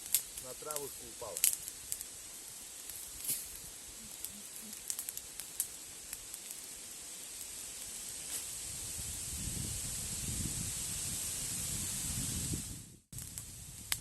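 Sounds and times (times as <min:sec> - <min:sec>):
campfire crackling: 0:00.0 - 0:11.8, 0:13.1 - 0:14.0
steady hiss: 0:00.0 - 0:14.0.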